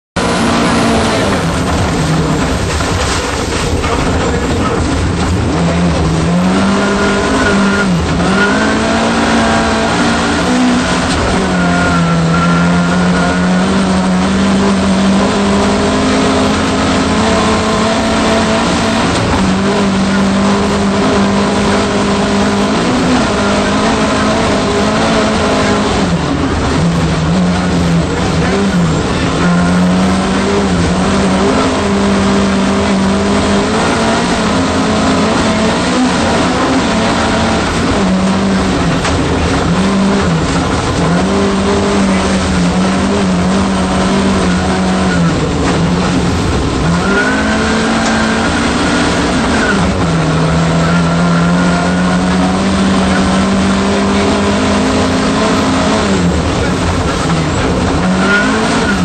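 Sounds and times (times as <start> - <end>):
car engine revving hard: 0.0 - 59.0.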